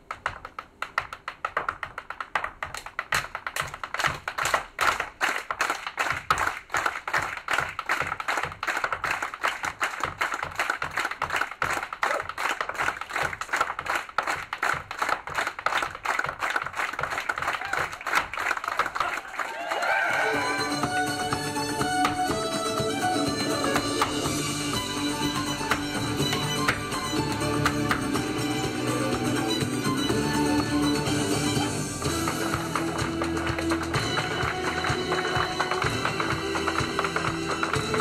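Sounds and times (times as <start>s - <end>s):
hard shoes tapping on stage floor: 0.0s - 19.1s, 20.4s - 38.0s.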